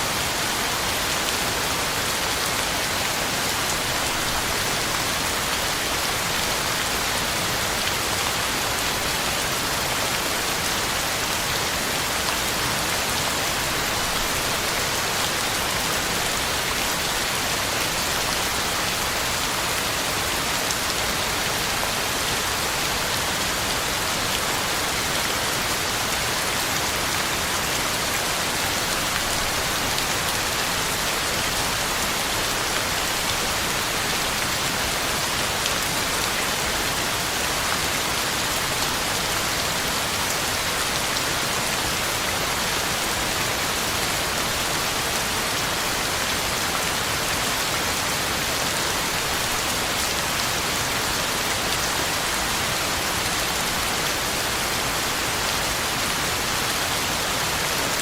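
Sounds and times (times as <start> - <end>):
heavy rain on leaves: 0.0 - 58.0.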